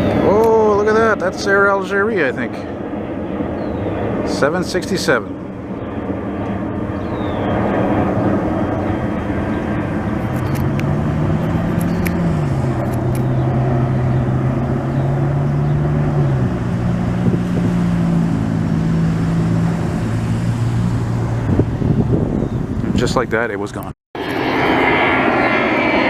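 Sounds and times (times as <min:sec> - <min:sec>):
low hum: 0:00.0 - 0:22.9, 0:24.2 - 0:26.0
jet engines roaring: 0:00.0 - 0:26.0.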